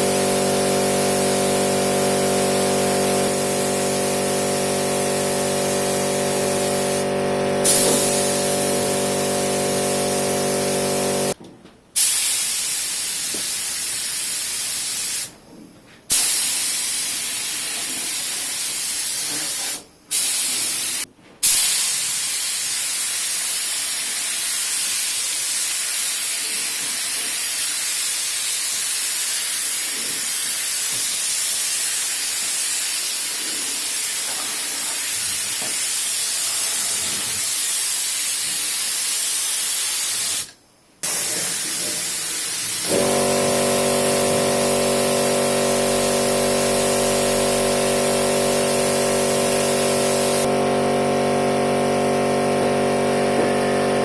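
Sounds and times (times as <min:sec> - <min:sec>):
spray gun air hiss: 0:00.0 - 0:11.4, 0:12.0 - 0:15.4, 0:16.1 - 0:54.0.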